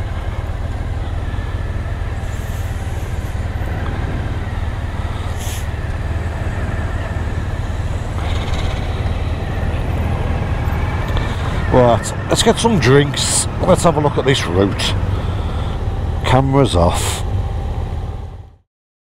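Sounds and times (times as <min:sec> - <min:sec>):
motorcycle engine rumble: 0:00.0 - 0:18.6.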